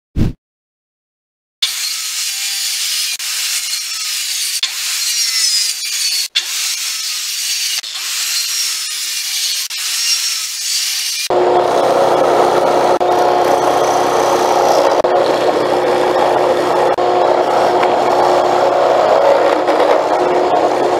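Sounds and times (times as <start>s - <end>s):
circular saw cutting wood: 1.6s - 20.9s.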